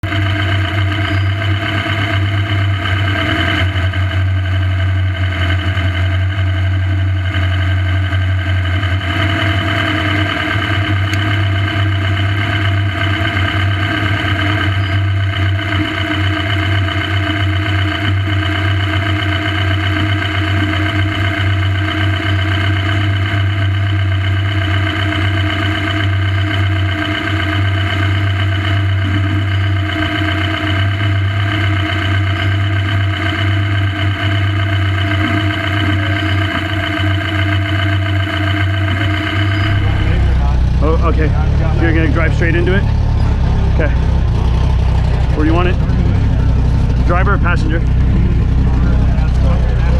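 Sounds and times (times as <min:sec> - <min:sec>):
buggy engine idling: 0:00.0 - 0:49.9.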